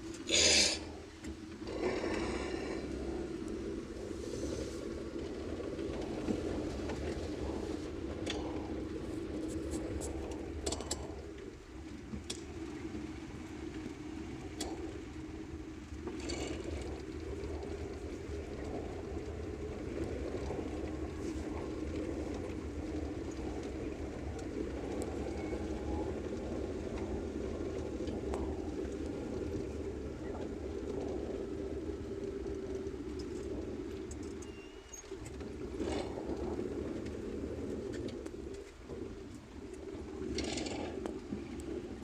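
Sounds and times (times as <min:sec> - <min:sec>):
engine and tyres on wet road: 0:00.0 - 0:42.0.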